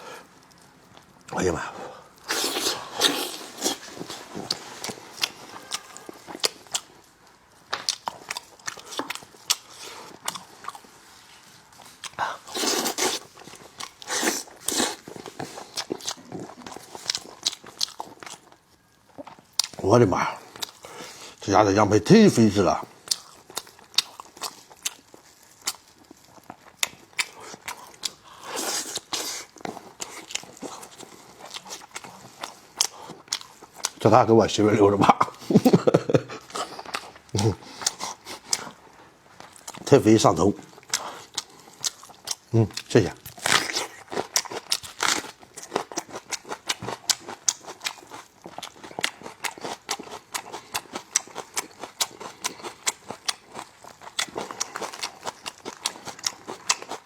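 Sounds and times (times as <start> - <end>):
wet chewing and gnawing: 0.0 - 34.4, 35.2 - 57.0.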